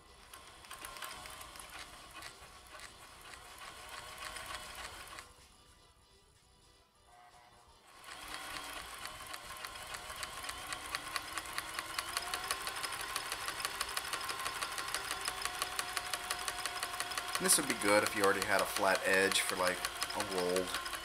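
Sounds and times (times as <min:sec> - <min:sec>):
overlock sewing machine clicking: 0:00.0 - 0:05.2, 0:08.0 - 0:21.0.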